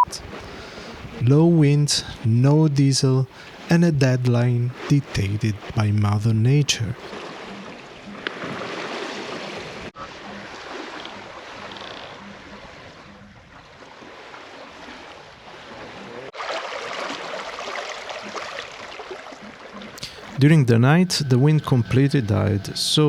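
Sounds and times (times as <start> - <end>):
water rushing along a hull: 0.2 - 23.0.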